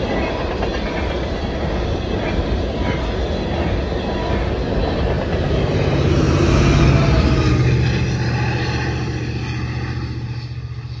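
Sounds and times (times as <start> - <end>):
diesel locomotives passing: 0.0 - 11.0.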